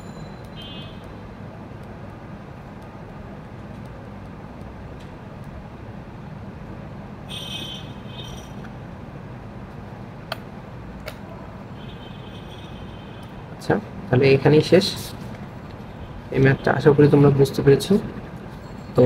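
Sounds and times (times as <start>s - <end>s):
low background noise: 0.0s - 19.0s.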